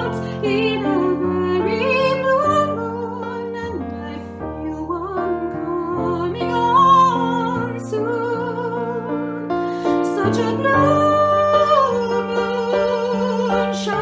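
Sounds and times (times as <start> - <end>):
digital piano chords: 0.0 - 14.0
woman singing a slow ballad: 0.0 - 14.0.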